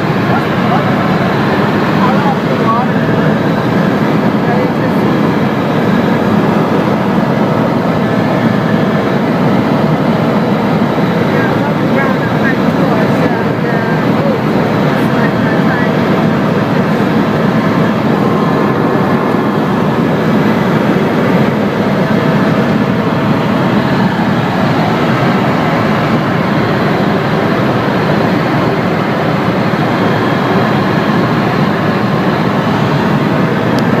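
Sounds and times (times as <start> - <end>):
aircraft engine and wind noise: 0.0 - 34.0.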